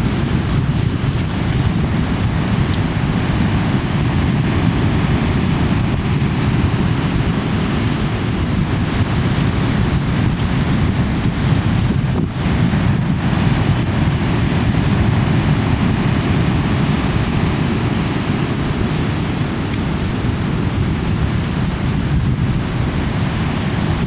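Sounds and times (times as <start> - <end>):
sea waves breaking: 0.0 - 24.0
wind buffeting microphone: 0.0 - 24.0.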